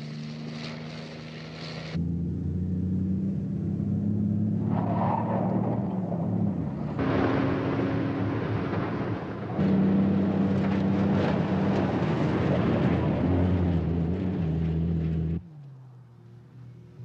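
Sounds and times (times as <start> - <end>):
tyre and road noise on dirt: 0.0 - 17.0.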